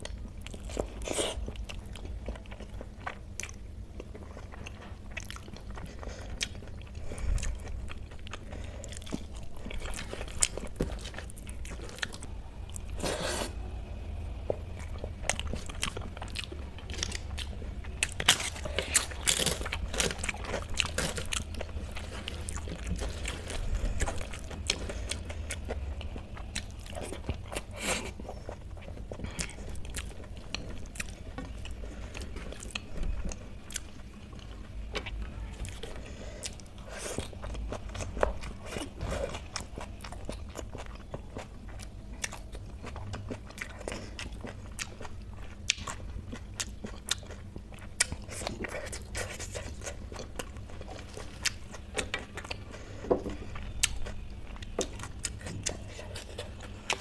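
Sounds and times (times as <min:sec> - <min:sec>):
wet chewing and mouth smacking: 0:00.0 - 0:13.5, 0:14.5 - 0:57.0.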